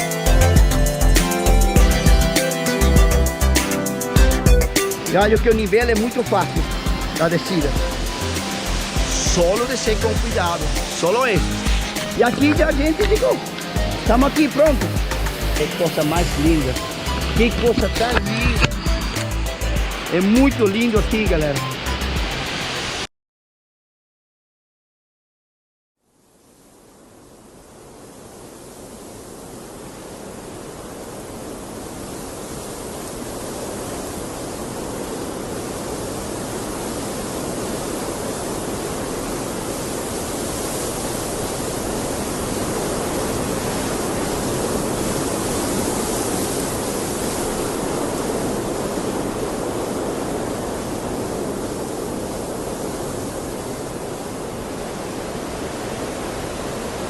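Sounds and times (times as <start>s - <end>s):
waterfall rushing: 0.0s - 23.1s, 28.1s - 57.0s.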